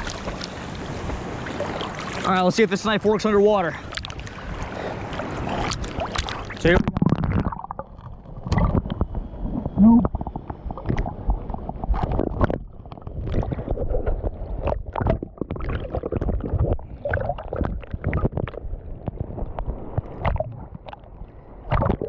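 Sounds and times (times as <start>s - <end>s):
seawater sloshing: 0.0s - 22.0s.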